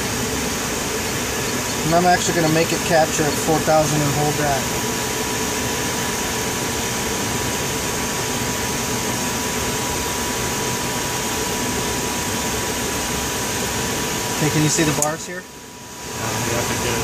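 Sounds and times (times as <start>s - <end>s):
whooshing cockpit fan noise: 0.0s - 17.0s.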